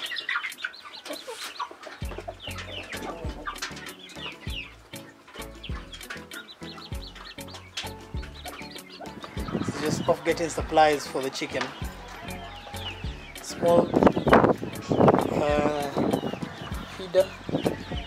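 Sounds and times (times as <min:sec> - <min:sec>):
chicks peeping: 0:00.0 - 0:18.0
hen clucking: 0:00.0 - 0:18.0
background music with bass beat: 0:02.0 - 0:18.0.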